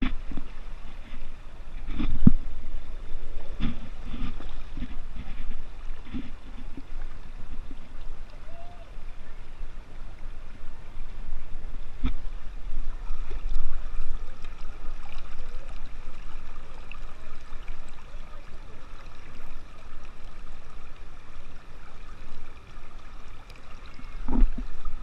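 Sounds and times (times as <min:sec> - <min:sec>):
water rushing over rocks: 0:00.0 - 0:25.0.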